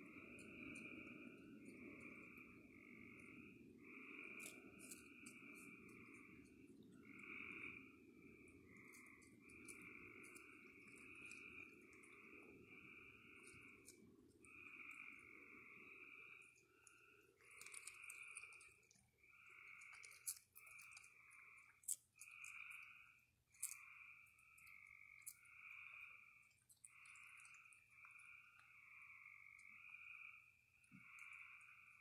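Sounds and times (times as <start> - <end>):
animal chewing with crunching clicks: 0.0 - 32.0
frogs calling: 0.0 - 32.0.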